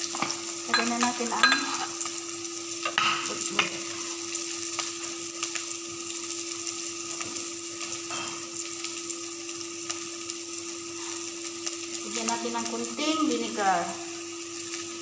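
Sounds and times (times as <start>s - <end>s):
garlic and onions sizzling in oil: 0.0s - 15.0s.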